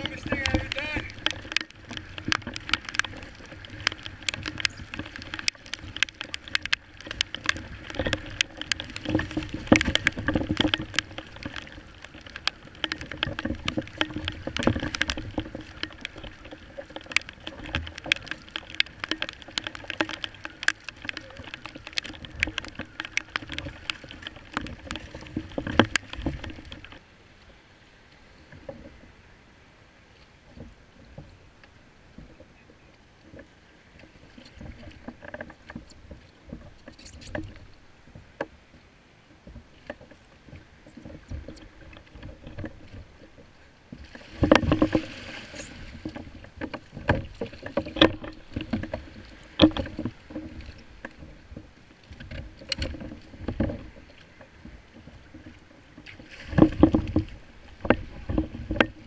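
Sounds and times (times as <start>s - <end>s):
calm water: 0.0s - 59.0s
rain and spray hitting camera: 0.0s - 59.0s
sea splashing against kayak hull: 0.0s - 59.0s.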